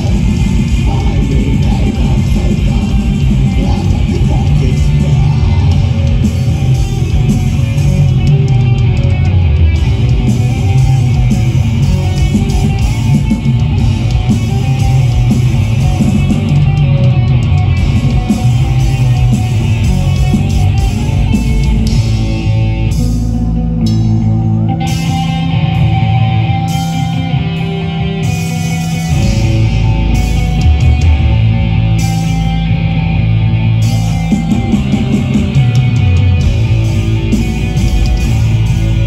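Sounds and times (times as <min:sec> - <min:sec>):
bass guitar: 0:00.0 - 0:39.0
distorted electric guitars: 0:00.0 - 0:39.0
fast drums: 0:00.0 - 0:39.0.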